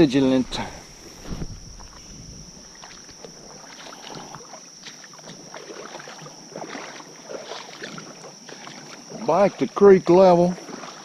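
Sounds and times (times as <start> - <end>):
high-pitched insect drone: 0.0 - 11.0
wading splashes in creek: 0.2 - 11.0.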